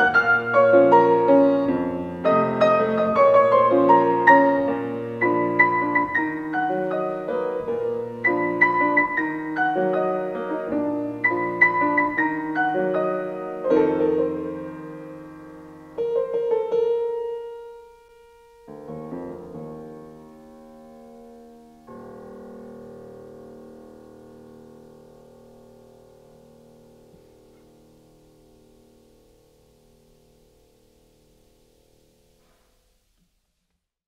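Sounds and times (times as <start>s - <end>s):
grand piano melody: 0.0s - 32.4s.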